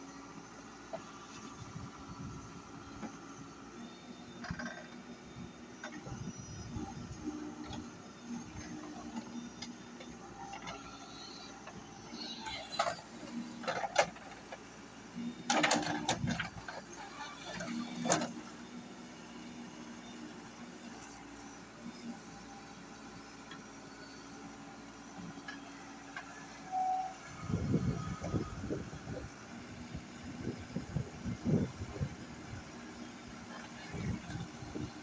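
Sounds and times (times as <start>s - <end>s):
backhoe engine running: 0.0s - 35.0s.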